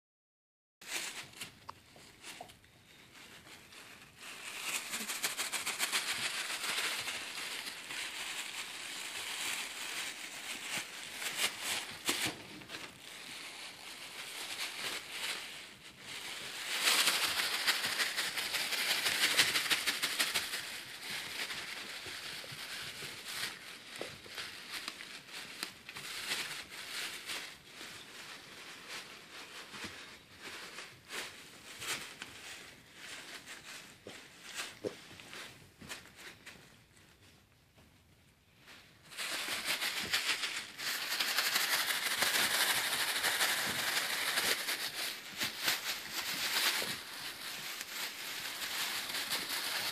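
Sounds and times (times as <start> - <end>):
plastic sheet crinkling: 0.8 - 49.9.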